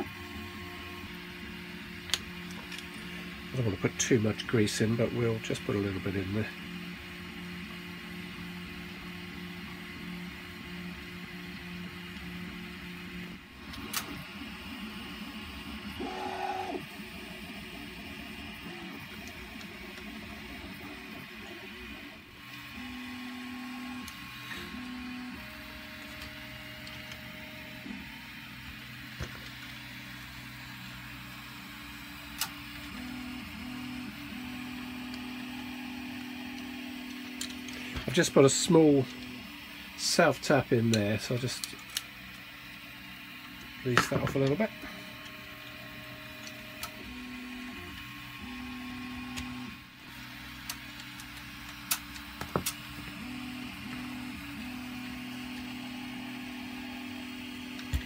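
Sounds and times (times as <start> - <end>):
small electric motor whine: 0.0 - 4.2, 5.0 - 58.0.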